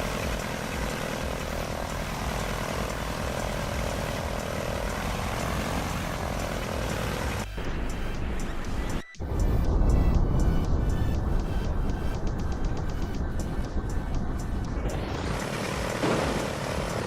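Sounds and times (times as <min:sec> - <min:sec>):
propeller aircraft engine drone: 0:00.0 - 0:17.0.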